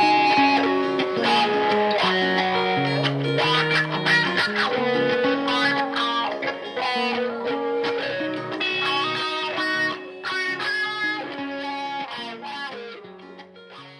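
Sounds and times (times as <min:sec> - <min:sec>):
electric guitar picked notes: 0:00.0 - 0:13.9.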